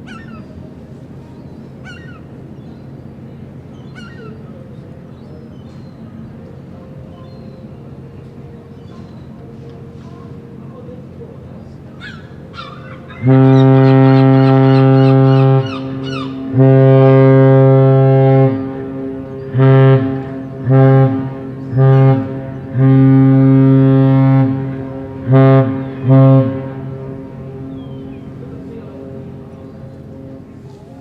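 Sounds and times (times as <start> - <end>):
ship horn blasts: 0.1 - 31.0.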